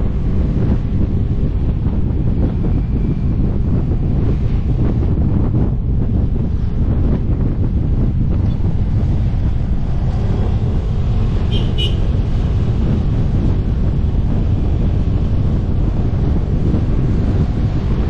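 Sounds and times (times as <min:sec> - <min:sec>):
vehicle noise: 0:00.0 - 0:18.0
wind buffeting microphone: 0:00.0 - 0:18.0.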